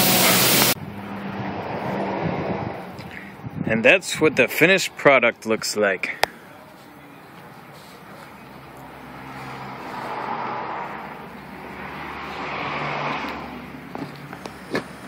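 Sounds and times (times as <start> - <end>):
vehicles passing by: 0.0 - 15.0.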